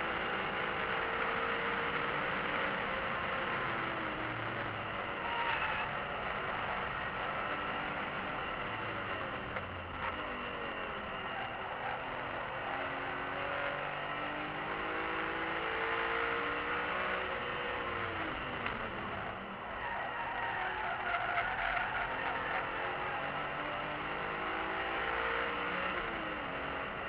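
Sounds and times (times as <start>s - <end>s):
car engine accelerating: 0.0s - 27.0s
road and wind noise: 0.0s - 27.0s.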